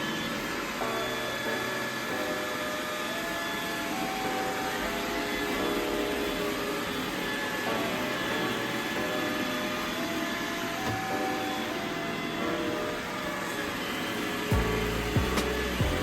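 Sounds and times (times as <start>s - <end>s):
robot vacuum running: 0.0s - 16.0s.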